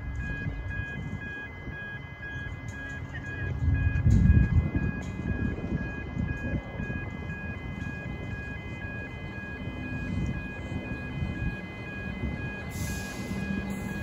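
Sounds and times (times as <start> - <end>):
crossing warning bells dinging: 0.0 - 14.0.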